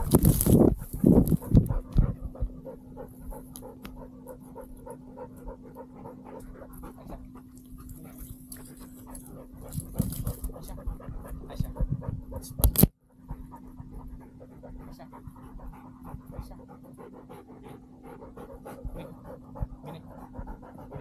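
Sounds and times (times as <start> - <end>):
rustles and knocks of movement: 0.0 - 16.9
dog panting: 0.0 - 21.0
steady low hum: 0.0 - 21.0.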